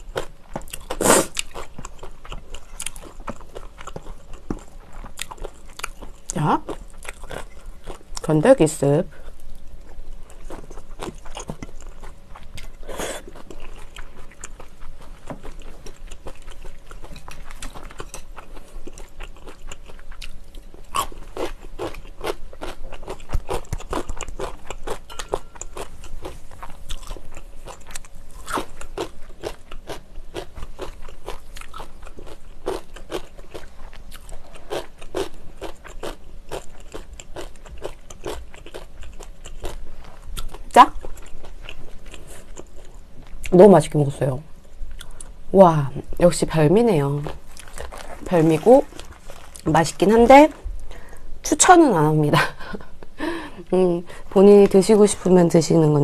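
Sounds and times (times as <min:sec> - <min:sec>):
person chewing noodles: 0:00.0 - 0:08.2, 0:09.1 - 0:43.5, 0:44.6 - 0:45.4, 0:47.2 - 0:49.7.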